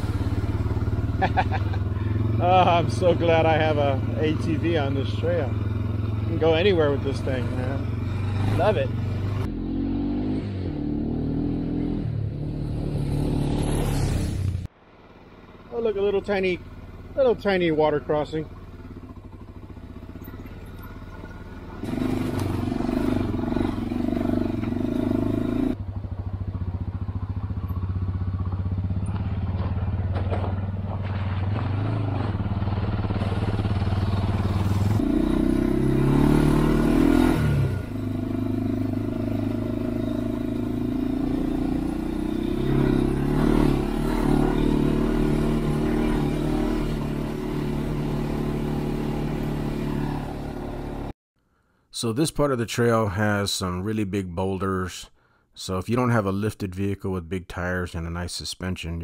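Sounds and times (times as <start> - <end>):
off-road engine running: 0.0 - 51.1.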